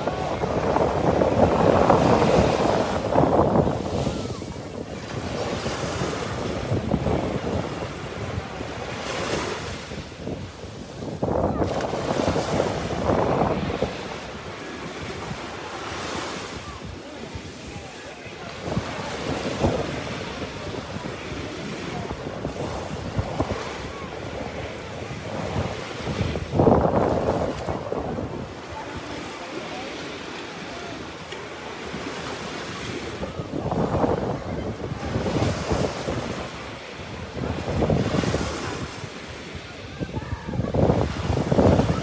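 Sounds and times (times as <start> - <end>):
waves washing up a beach: 0.0 - 42.0
wind buffeting the microphone: 0.0 - 42.0.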